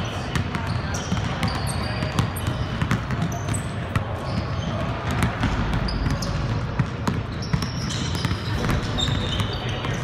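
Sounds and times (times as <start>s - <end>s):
basketballs bouncing on wood floor: 0.0s - 10.0s
hubbub of voices: 0.0s - 10.0s
sneaker squeaks: 0.0s - 10.0s.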